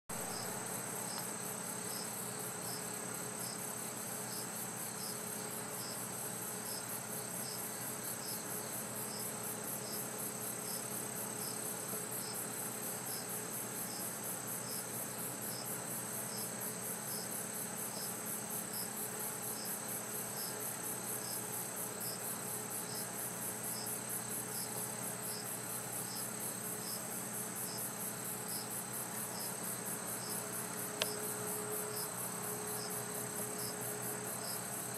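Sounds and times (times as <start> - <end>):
higher insect chirp: 0.1 - 34.9
insects trilling: 0.1 - 34.9.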